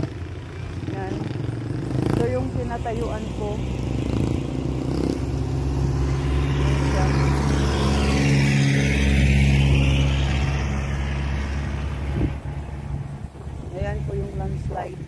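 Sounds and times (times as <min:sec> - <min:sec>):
vehicle driving past: 0:00.0 - 0:15.0.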